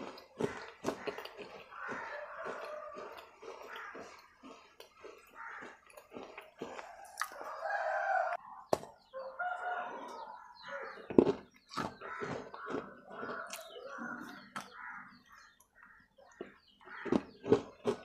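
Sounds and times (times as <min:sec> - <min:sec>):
teeth crunching clay: 0:00.0 - 0:07.9, 0:11.0 - 0:18.0.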